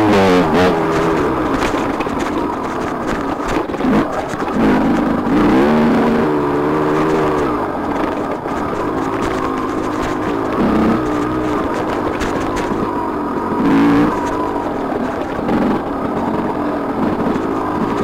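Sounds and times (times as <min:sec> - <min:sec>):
bike knocking over rough ground: 0:00.0 - 0:18.0
dirt bike engine revving: 0:00.0 - 0:18.0.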